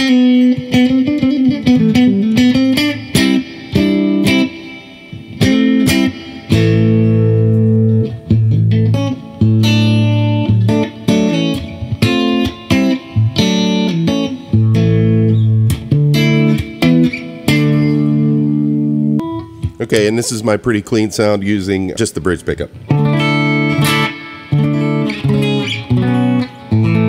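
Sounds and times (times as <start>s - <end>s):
electric guitar rhythm chords: 0.0s - 27.0s.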